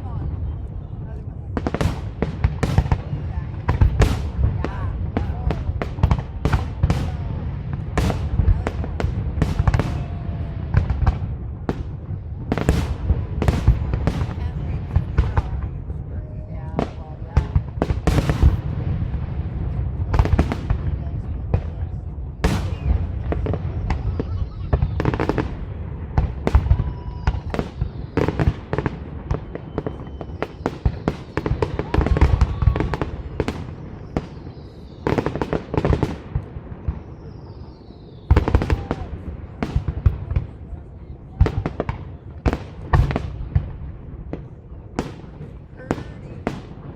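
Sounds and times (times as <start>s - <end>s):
fireworks bangs and booms: 0.0s - 46.9s.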